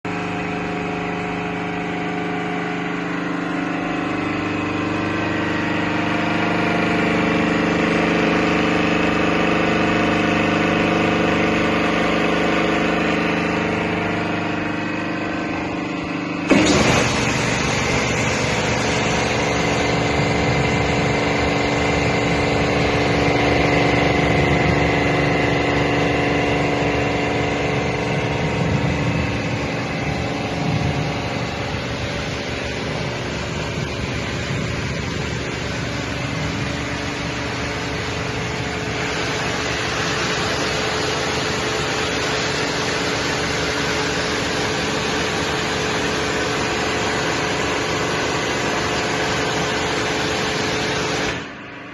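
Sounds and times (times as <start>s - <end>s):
pressure washer motor and hiss: 0.1s - 51.9s.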